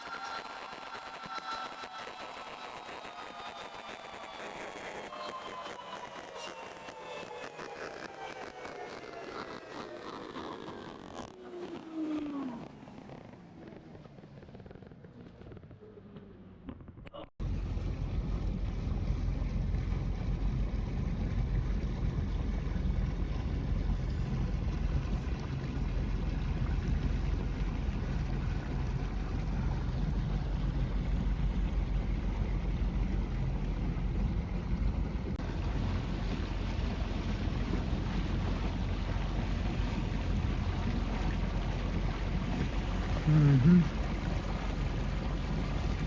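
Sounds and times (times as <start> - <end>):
motorboat engine: 0.0 - 46.0.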